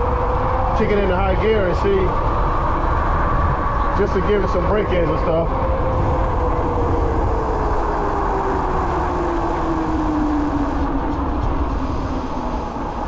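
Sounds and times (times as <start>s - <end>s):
electric bike motor whine: 0.0s - 13.0s
wind rumbling on microphone: 0.0s - 13.0s.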